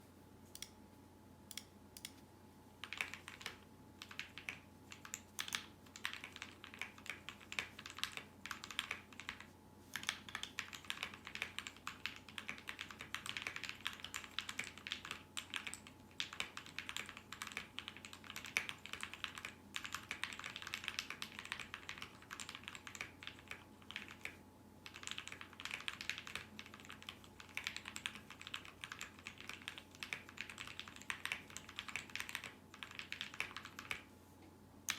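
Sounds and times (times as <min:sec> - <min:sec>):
mechanical keyboard typing: 0:02.8 - 0:34.1.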